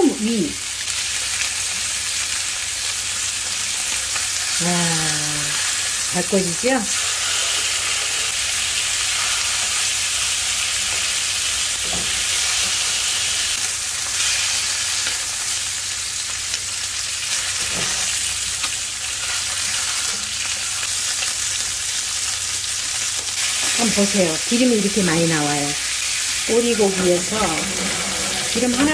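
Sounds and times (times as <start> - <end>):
meat sizzling in a pan: 0.0 - 28.9.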